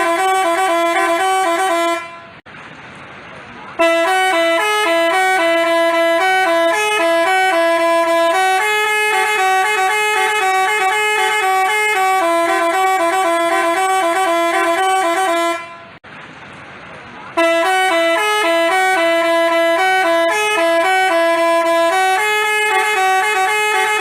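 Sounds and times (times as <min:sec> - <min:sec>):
musical bus horn tune: 0:00.0 - 0:02.4, 0:03.8 - 0:16.0, 0:17.4 - 0:24.0.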